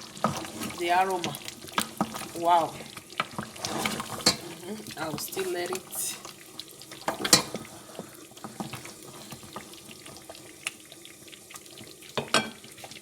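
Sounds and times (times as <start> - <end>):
stew crackling in a pot: 0.0 - 13.0.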